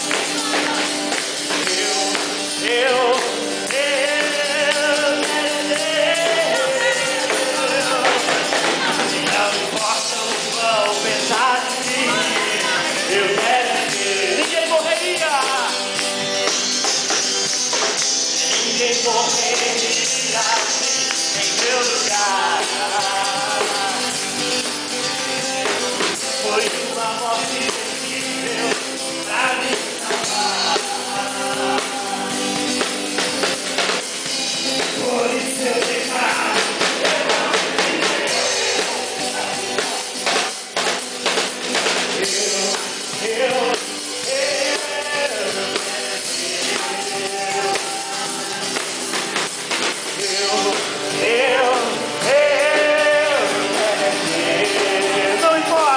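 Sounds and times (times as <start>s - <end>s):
drum kit: 0.0s - 55.9s
group singing: 0.0s - 55.9s
strummed acoustic guitar: 0.0s - 55.9s.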